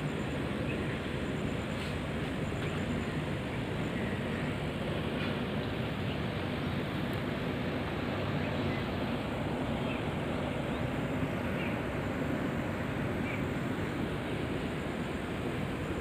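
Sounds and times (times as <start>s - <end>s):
distant road traffic: 0.0s - 16.0s.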